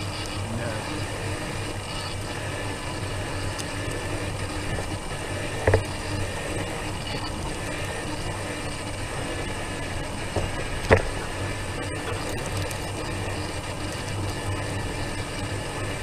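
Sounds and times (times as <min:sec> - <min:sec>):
low hum: 0:00.0 - 0:16.0
small vehicle rolling along street: 0:00.0 - 0:16.0.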